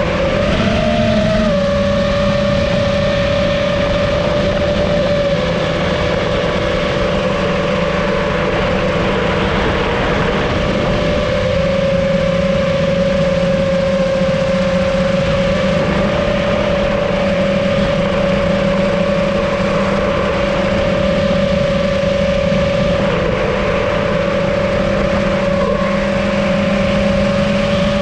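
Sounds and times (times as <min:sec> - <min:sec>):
drone motors whining: 0:00.0 - 0:28.0
rushing propeller and air noise: 0:00.0 - 0:28.0.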